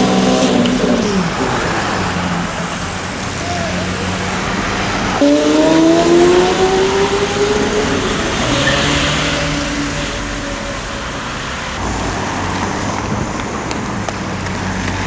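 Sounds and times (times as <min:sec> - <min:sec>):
road and wind noise: 0:00.0 - 0:15.0
sports car engine at low revs: 0:00.0 - 0:15.0.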